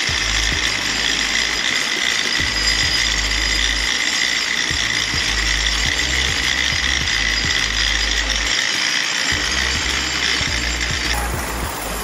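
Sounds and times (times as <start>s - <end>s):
cable ride seats rattling and clicking: 0.0s - 12.0s.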